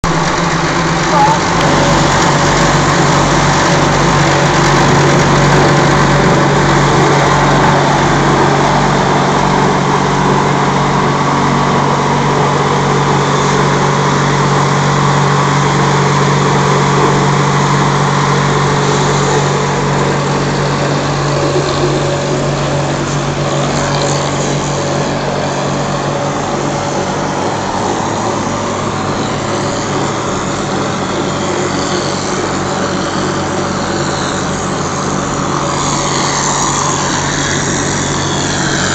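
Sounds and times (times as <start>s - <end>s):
plastering machine humming: 0.0s - 38.9s.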